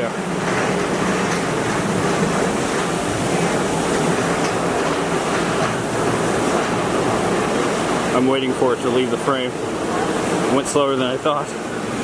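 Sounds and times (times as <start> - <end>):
water rushing through channel: 0.0 - 12.0.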